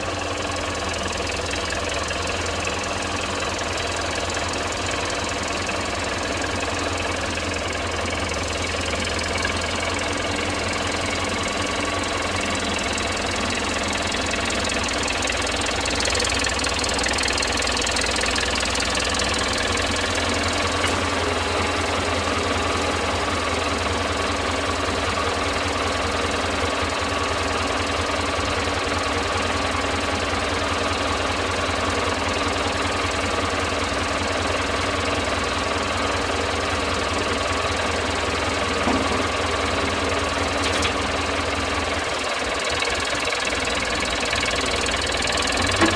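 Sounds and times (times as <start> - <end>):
sawmill engine running: 0.0 - 45.9.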